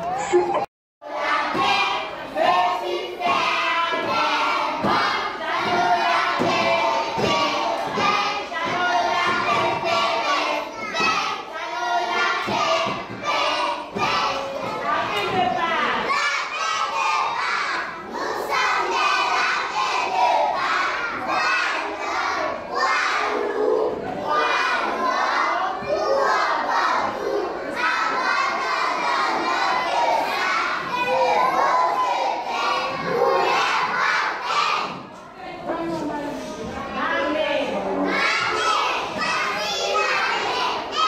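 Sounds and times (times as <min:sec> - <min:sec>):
children singing in unison: 0:00.0 - 0:15.1, 0:16.0 - 0:35.1, 0:38.0 - 0:41.0.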